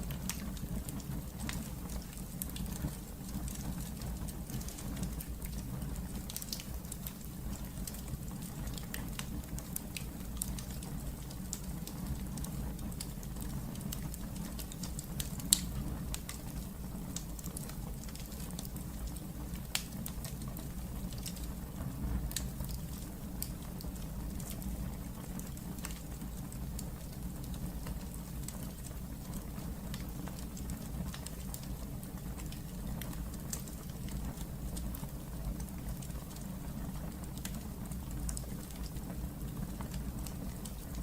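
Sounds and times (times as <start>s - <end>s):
fire crackling in fireplace: 0.0s - 41.0s.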